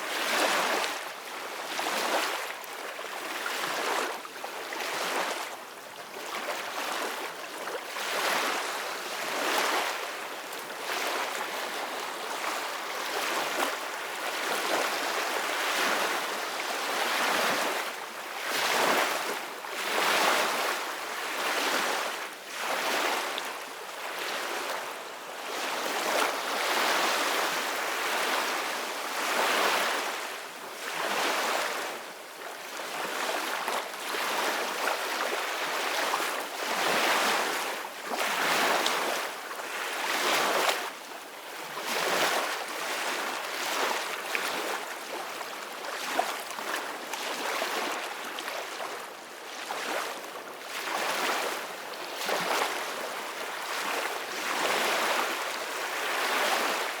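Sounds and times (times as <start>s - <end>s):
ocean waves breaking on beach: 6.1s - 57.0s.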